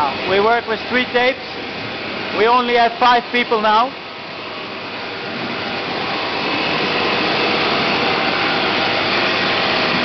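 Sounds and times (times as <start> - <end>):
harvesting machinery drone: 0.0 - 10.0.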